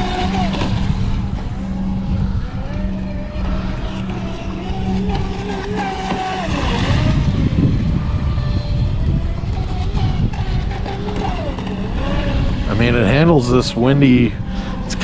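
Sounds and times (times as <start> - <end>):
electric motor whining: 0.0 - 15.0
wind noise on microphone: 0.0 - 15.0.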